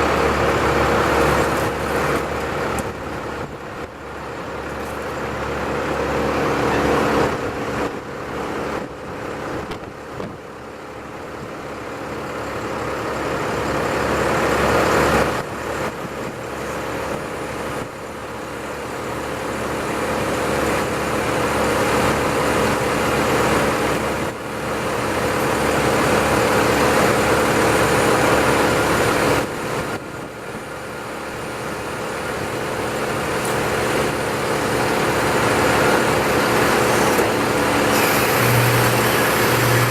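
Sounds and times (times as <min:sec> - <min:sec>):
large engine under load: 0:00.0 - 0:39.9.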